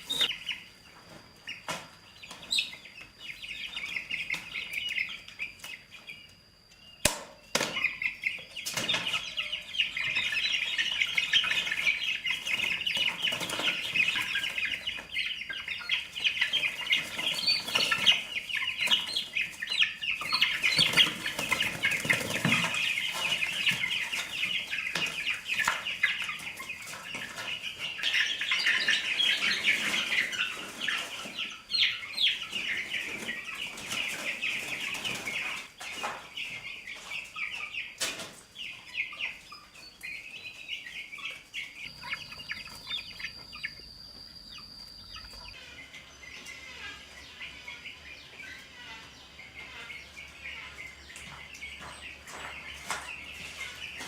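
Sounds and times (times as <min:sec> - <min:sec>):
chickens clucking and chirping: 0:00.0 - 0:54.0.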